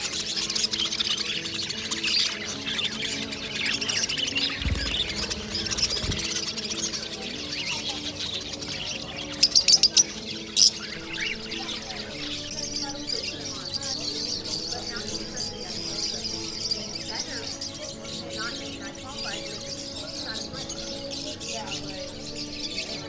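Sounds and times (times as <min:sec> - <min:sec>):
birds chattering and chirping: 0:00.0 - 0:23.0.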